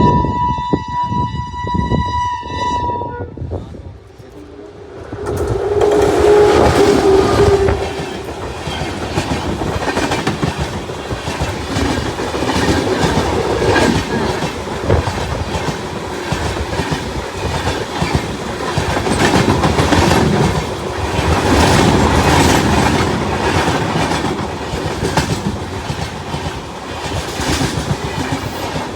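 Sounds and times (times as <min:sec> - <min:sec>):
train rumble: 0:00.0 - 0:28.9
train wheels clattering over rail joints: 0:05.2 - 0:28.9.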